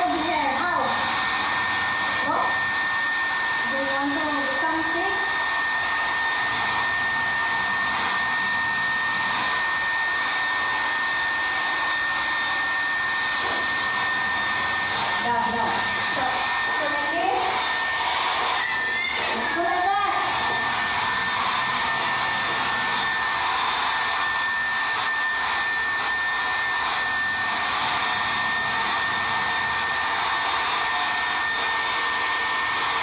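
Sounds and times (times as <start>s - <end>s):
hair dryer blowing: 0.0s - 33.0s.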